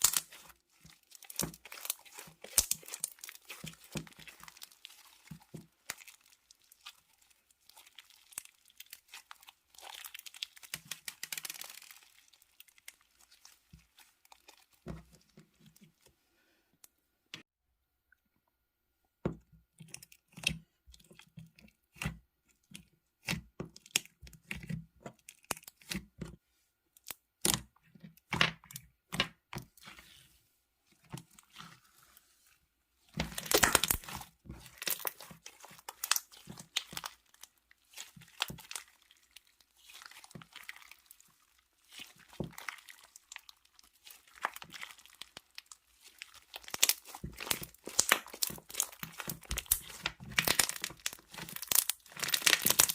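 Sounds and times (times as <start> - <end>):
slime squishing and crackling: 0.0 - 16.0, 19.8 - 26.1, 30.9 - 52.9.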